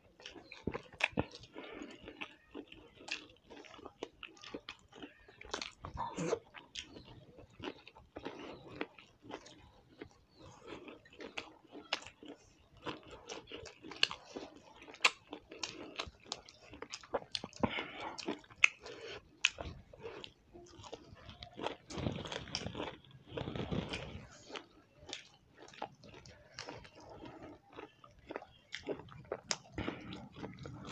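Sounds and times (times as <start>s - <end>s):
wet chewing and lip smacking: 0.0s - 30.9s.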